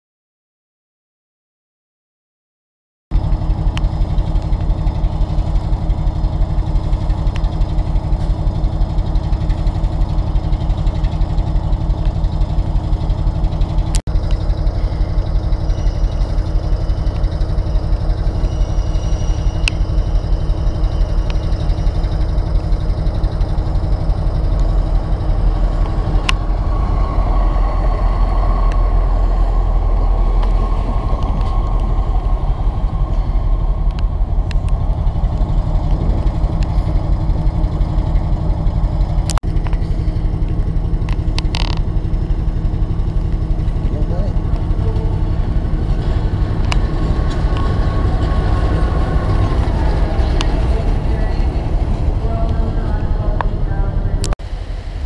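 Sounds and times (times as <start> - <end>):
diesel locomotive engine running: 3.1 - 55.0
passenger train rumble and whine: 3.1 - 55.0.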